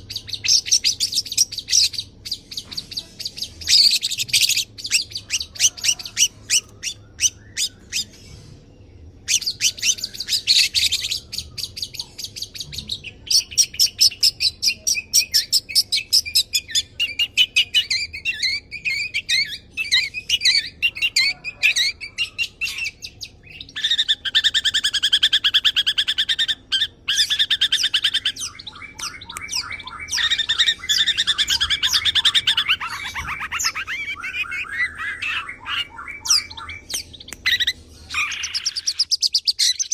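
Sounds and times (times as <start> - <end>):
shrike singing rapid varied song: 0.0 - 39.9.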